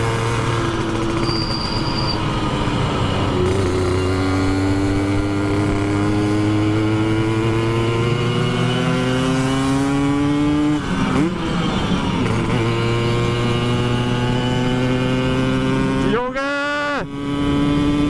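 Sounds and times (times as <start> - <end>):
moped engine revving: 0.0 - 18.0.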